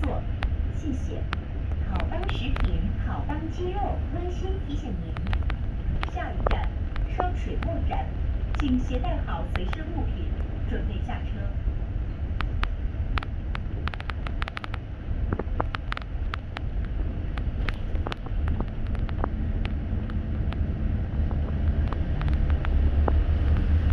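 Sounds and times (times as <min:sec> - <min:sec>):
sharp clicks and rattles: 0:00.0 - 0:10.6, 0:12.3 - 0:23.9
bus engine and road rumble: 0:00.0 - 0:23.9.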